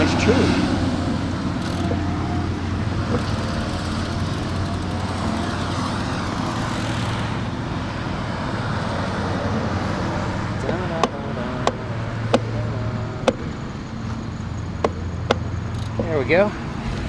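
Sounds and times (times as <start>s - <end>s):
constant low hum: 0.0s - 8.9s, 10.3s - 17.0s
wind and road noise: 0.0s - 17.0s.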